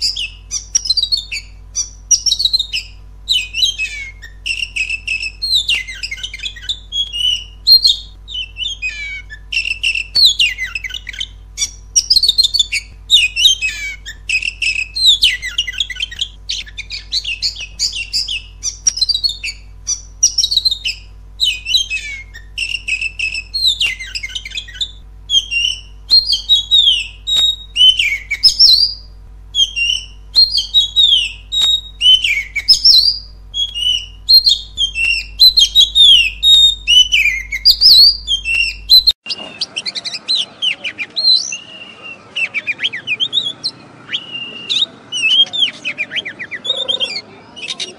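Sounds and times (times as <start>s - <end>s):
bird singing whistled phrases: 0.0s - 47.9s.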